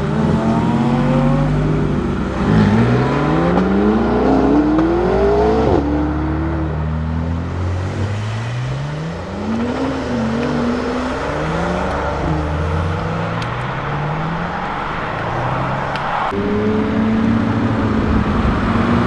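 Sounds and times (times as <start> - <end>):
sports car engine accelerating: 0.0 - 19.0.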